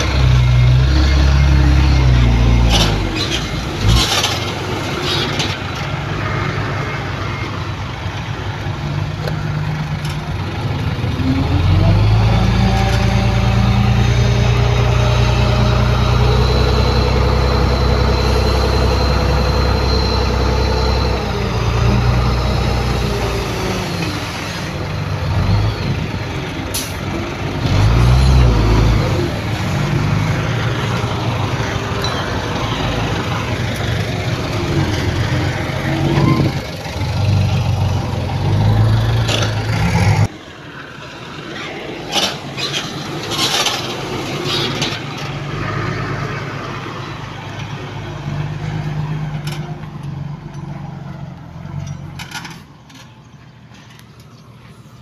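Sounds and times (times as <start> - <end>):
heavy diesel machinery engine: 0.0 - 55.0
high engine whine: 0.0 - 55.0.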